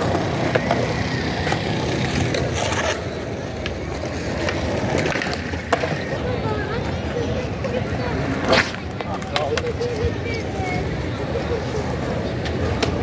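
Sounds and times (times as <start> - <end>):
skateboard clacking on ground: 0.0 - 13.0
skateboard wheels rolling on pavement: 0.0 - 13.0.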